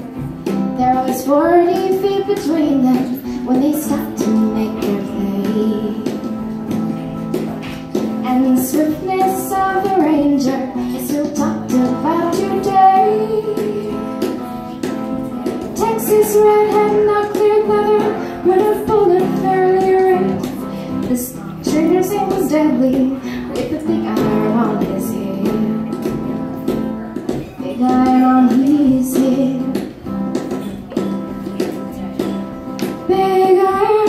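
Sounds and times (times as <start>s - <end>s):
strummed acoustic guitar: 0.0s - 34.0s
woman singing into microphone: 0.0s - 34.0s.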